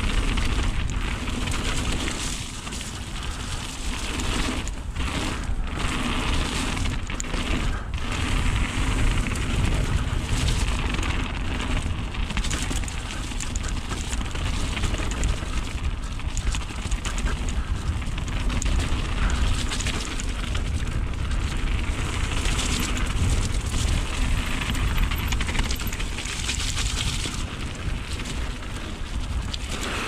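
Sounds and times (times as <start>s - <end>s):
bike clicks and rattles: 0.0s - 30.0s
bike tyre noise: 0.0s - 30.0s
wind buffeting microphone: 0.0s - 30.0s.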